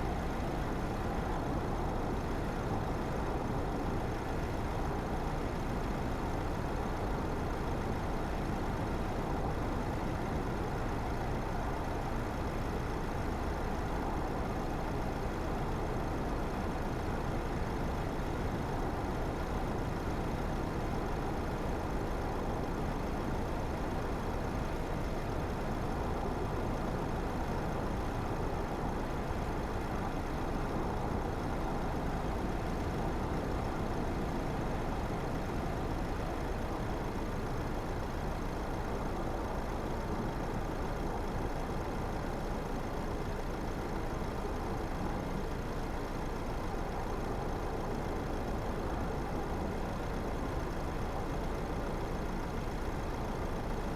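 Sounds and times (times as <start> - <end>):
car engine: 0.0 - 53.9.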